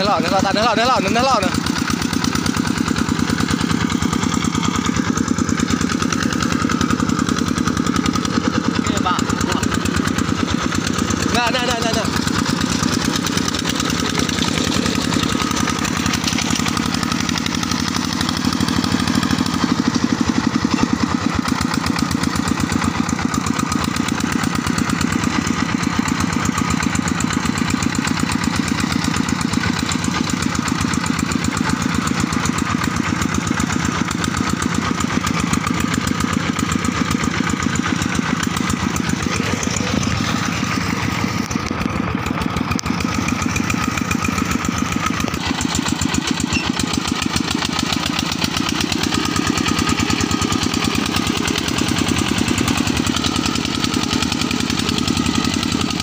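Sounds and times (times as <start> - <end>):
diesel tractor engine chugging: 0.0 - 56.0.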